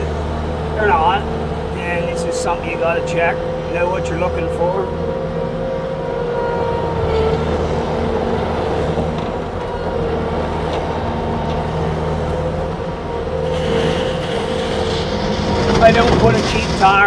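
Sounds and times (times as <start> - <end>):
diesel engine rumbling: 0.0 - 17.0
steady whine: 0.0 - 17.0.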